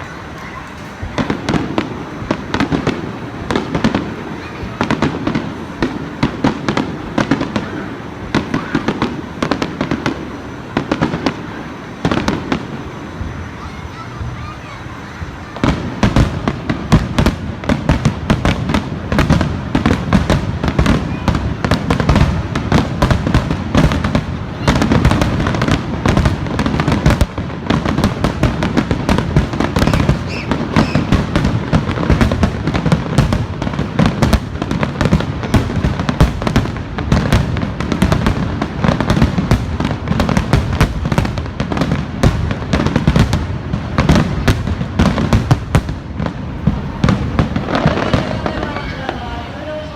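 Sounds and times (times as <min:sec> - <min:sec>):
fireworks bursts and crackles: 0:00.0 - 0:49.9.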